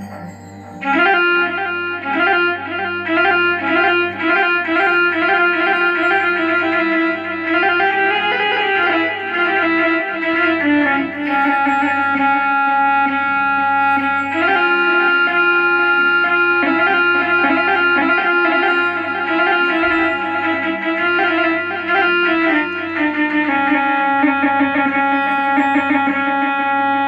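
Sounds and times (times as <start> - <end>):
keyboard fiddle melody: 0.0 - 27.0.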